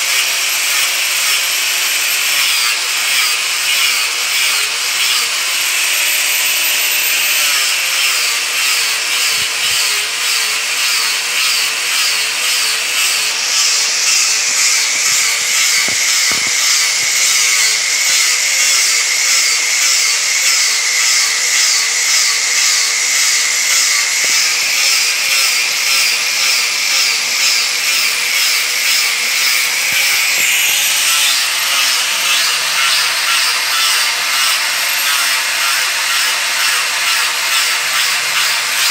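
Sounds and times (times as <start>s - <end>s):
angle grinder sanding wood: 0.0s - 38.9s.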